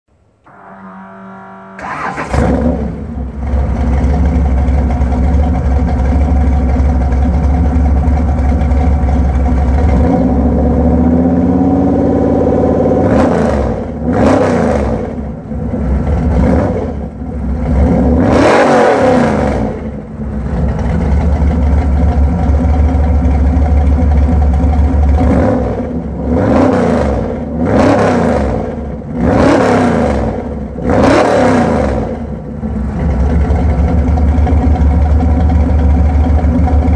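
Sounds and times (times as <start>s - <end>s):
car engine idling and revving: 0.2s - 36.9s.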